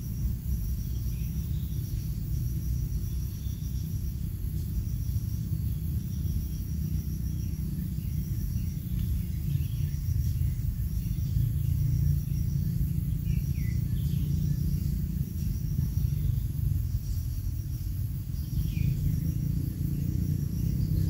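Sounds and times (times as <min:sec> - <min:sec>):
faint chirps: 0:00.0 - 0:21.0
insects trilling: 0:00.0 - 0:21.0
steady low rumble: 0:00.0 - 0:21.0.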